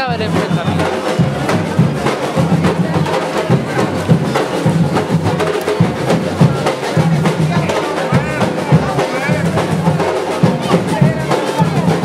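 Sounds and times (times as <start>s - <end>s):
deep bass drum beats: 0.0s - 12.0s.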